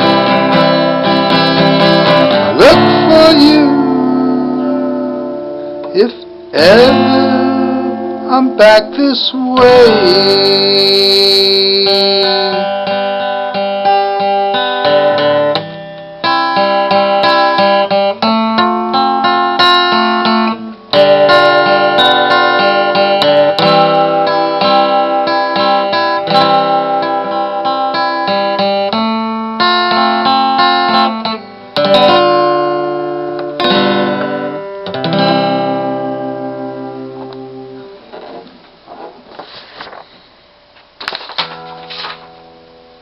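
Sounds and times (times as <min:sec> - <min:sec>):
acoustic guitar strummed chords: 0:00.0 - 0:39.6, 0:41.0 - 0:43.0.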